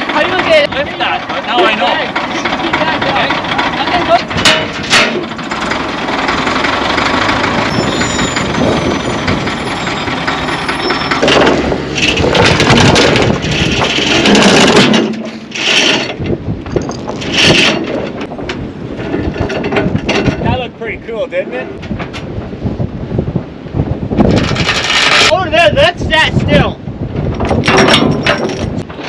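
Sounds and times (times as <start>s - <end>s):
mechanical clanks and scrapes: 0.0s - 20.6s, 24.2s - 25.3s, 27.3s - 29.0s
heavy equipment engine under load: 0.0s - 20.7s, 21.7s - 25.4s.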